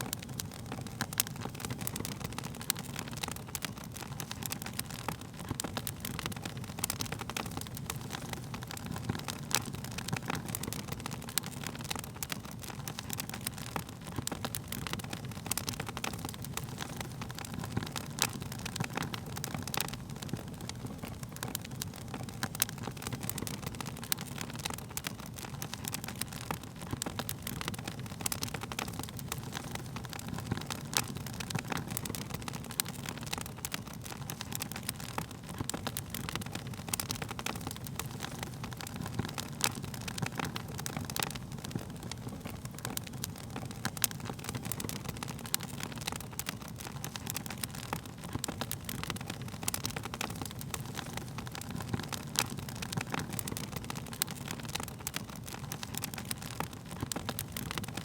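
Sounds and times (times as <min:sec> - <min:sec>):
low steady fire rumble: 0:00.0 - 0:58.0
wood fire crackling: 0:00.0 - 0:58.0.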